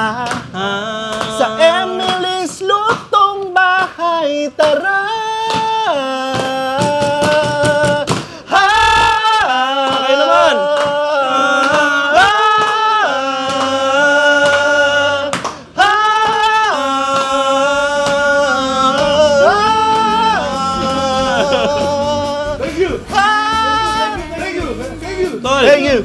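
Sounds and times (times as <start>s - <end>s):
men singing a cappella: 0.0s - 26.0s.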